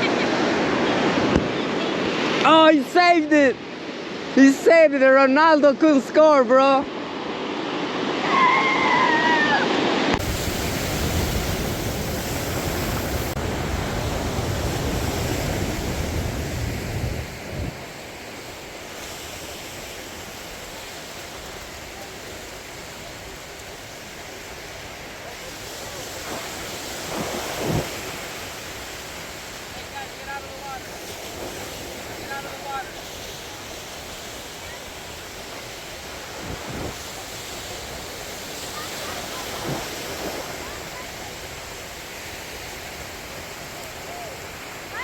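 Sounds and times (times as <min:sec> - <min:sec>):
surf washing on beach: 0:00.0 - 0:45.0
wind rumbling on microphone: 0:06.9 - 0:43.8.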